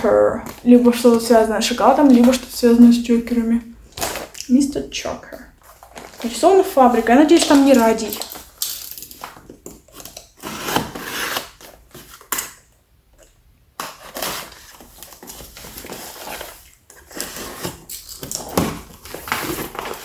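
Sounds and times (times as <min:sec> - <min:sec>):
cardboard box packaging rustling: 0:00.0 - 0:03.0, 0:03.8 - 0:04.5, 0:05.5 - 0:12.6, 0:13.8 - 0:20.0.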